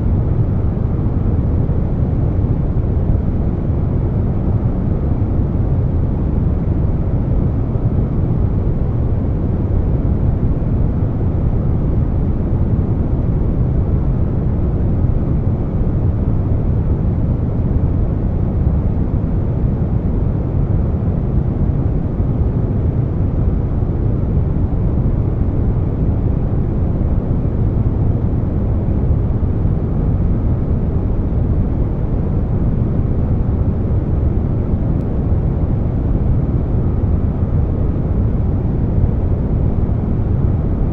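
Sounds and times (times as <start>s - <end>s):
air conditioner noise: 0.0s - 40.9s.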